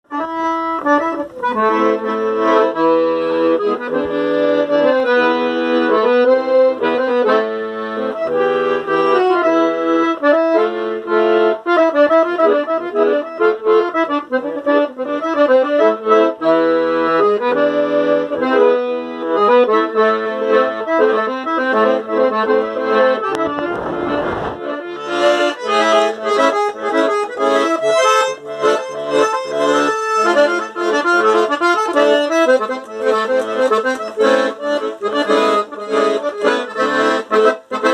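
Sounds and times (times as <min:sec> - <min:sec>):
accordion playing: 0:00.0 - 0:37.9.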